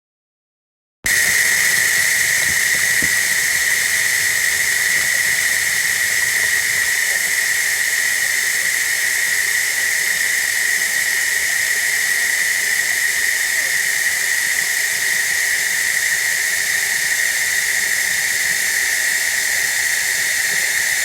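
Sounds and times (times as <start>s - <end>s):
running water hiss: 1.1s - 21.0s.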